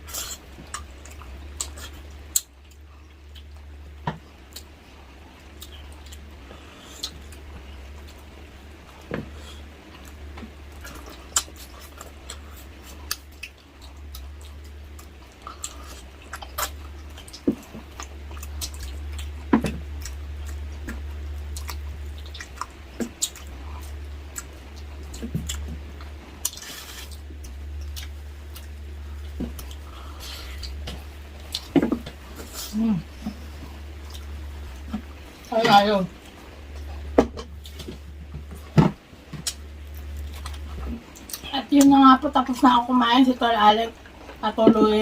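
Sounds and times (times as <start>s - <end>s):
steady low hum: 0.0s - 45.0s
chewing and mouth smacks: 0.1s - 3.7s, 5.4s - 35.4s, 36.2s - 41.8s.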